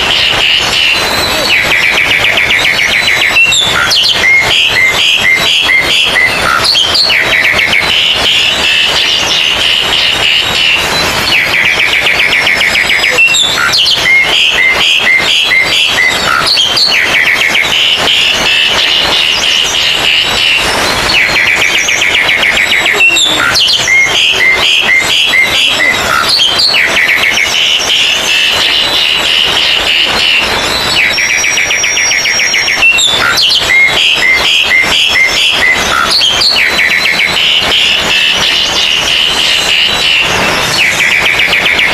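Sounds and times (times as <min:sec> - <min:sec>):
magpie-robins singing: 0:00.0 - 0:41.9
songbirds chattering and whistling: 0:00.0 - 0:41.9.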